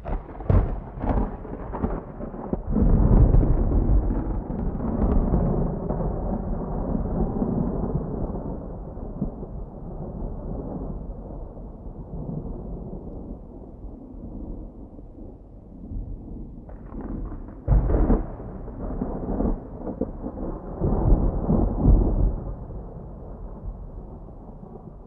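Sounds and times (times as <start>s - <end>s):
thunder rumbling and clapping: 0.0s - 25.0s.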